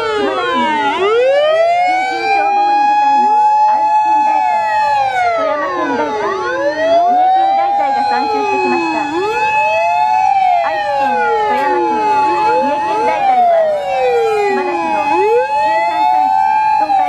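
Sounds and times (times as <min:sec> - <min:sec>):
fire engine sirens wailing: 0:00.0 - 0:17.0.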